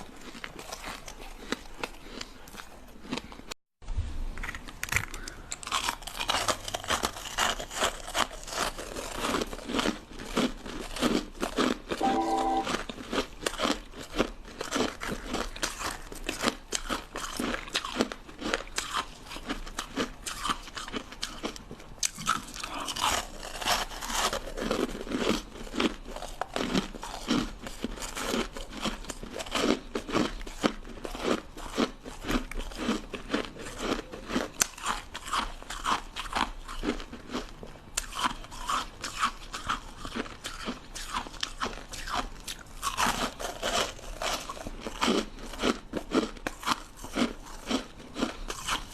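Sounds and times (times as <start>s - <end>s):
ice crunching while chewed: 0.0s - 3.6s, 4.4s - 48.9s.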